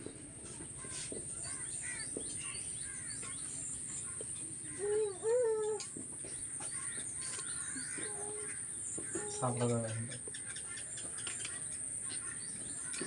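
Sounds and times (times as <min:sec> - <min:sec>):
small birds chirping: 0:00.4 - 0:13.0.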